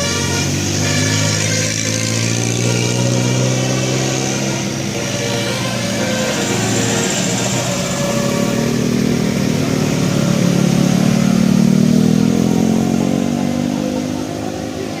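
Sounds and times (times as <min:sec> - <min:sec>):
vehicle engine accelerating past: 0:00.0 - 0:15.0.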